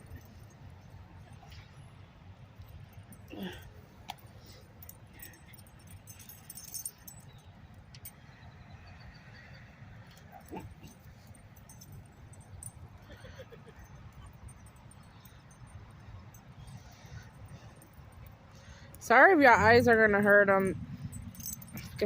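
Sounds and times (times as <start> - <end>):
light jingling: 0.0 - 22.0.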